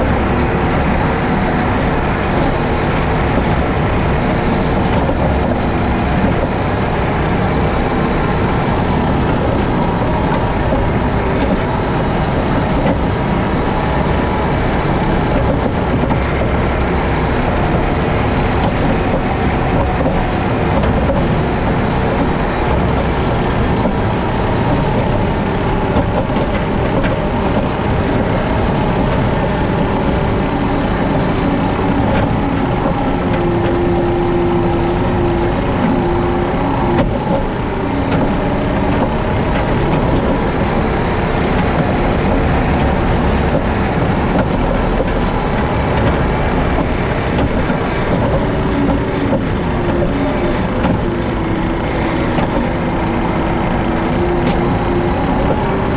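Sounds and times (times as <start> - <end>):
diesel engine running: 0.0 - 55.9
rotary mower cutting grass: 0.0 - 55.9.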